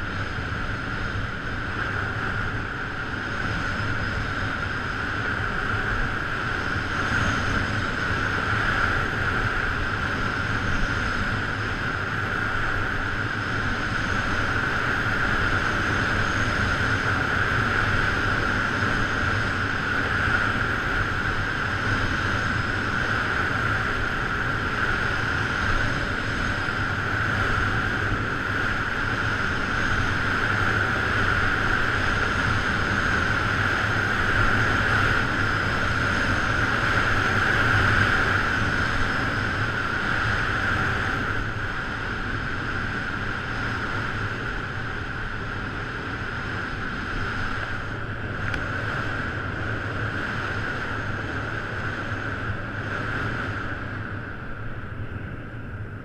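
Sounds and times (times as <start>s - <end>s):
wind over camera: 0.0s - 56.0s.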